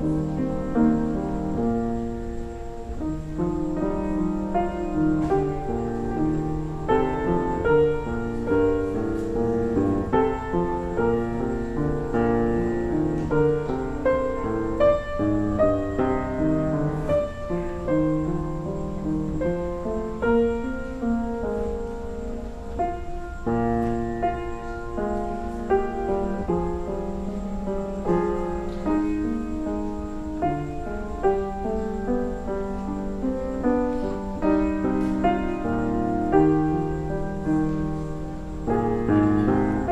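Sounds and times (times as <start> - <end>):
calm piano music: 0.0 - 39.9.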